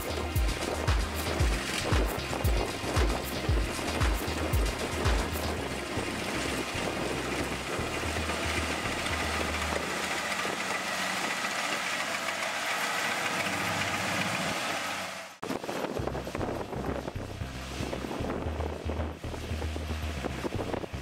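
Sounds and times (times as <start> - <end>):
combine harvester running: 0.0 - 21.0
rougher machine sound: 0.0 - 21.0.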